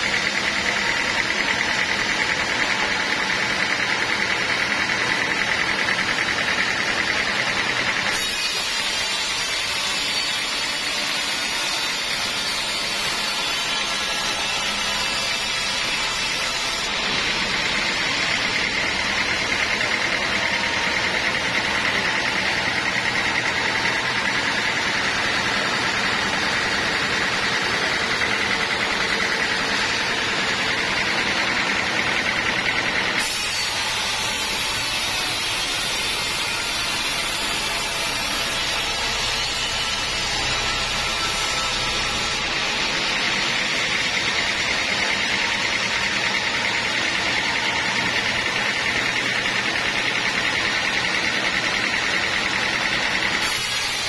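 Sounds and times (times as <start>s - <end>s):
sawmill saw running: 0.0s - 54.0s.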